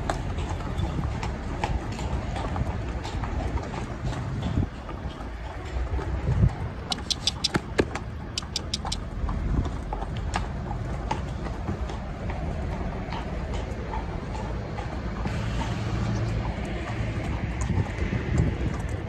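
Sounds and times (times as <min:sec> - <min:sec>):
hooves clip-clopping on brick: 0:00.0 - 0:19.0.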